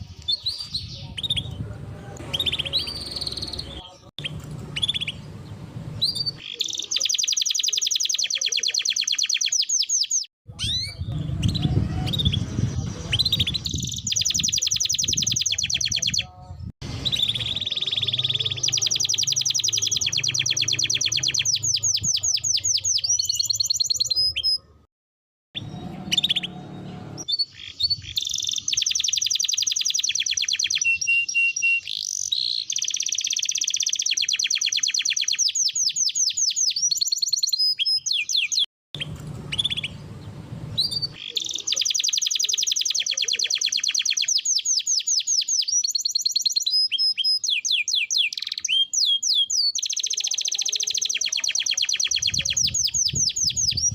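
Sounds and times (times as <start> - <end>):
canary singing trills: 0.0 - 24.9, 25.6 - 53.9.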